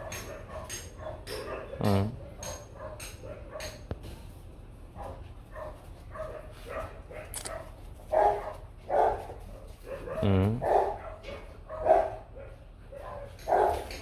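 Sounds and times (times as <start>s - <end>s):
dogs barking: 0.0s - 3.9s, 4.9s - 14.0s.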